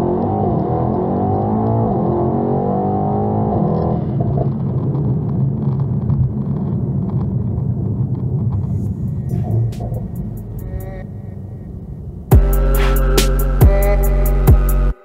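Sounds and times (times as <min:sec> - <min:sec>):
car engine accelerating: 0:00.0 - 0:15.0
road noise: 0:00.0 - 0:15.0.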